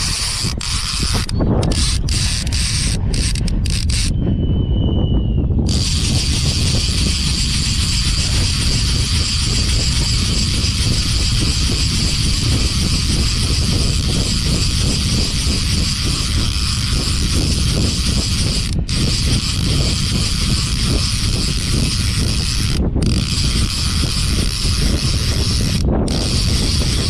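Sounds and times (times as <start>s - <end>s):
fishing reel whirring and clicking: 0.0s - 4.2s, 5.6s - 27.0s
wind noise: 0.0s - 27.0s.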